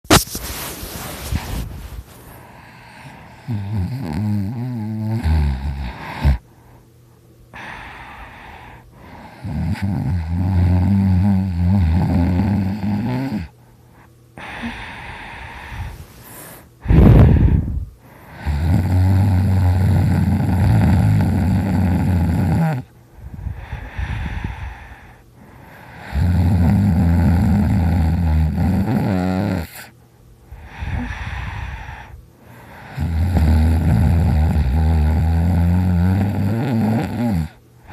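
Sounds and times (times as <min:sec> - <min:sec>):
quiet breaths: 0:00.9 - 0:04.0, 0:05.5 - 0:10.0, 0:13.4 - 0:28.1, 0:29.6 - 0:37.9
person snoring loudly: 0:02.6 - 0:06.4, 0:07.6 - 0:13.5, 0:14.4 - 0:15.9, 0:16.8 - 0:22.9, 0:23.6 - 0:29.9, 0:30.6 - 0:37.9.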